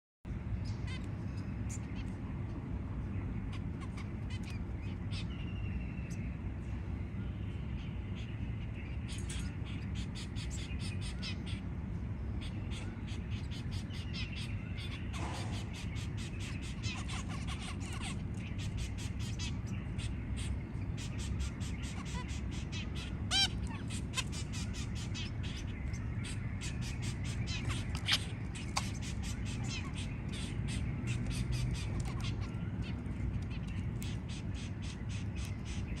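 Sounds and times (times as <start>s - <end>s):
steady low rumble: 0.3s - 36.0s
finch chicks chirping rapidly: 0.5s - 36.0s.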